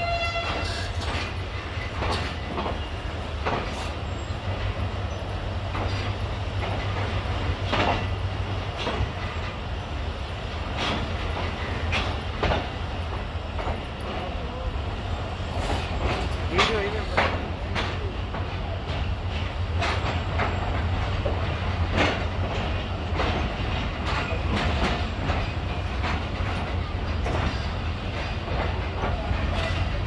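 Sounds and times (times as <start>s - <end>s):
train rumbling: 0.0s - 30.0s
train wheels clanking: 0.0s - 30.0s.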